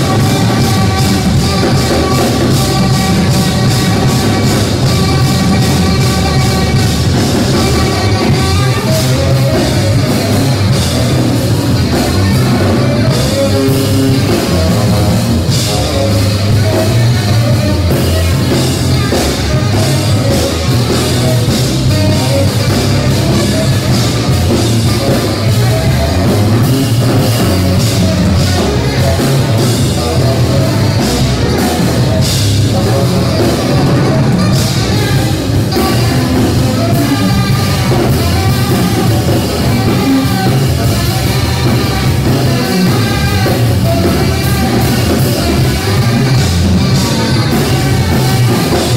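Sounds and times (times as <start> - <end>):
saxophone bass and drums trio: 0.0 - 48.9.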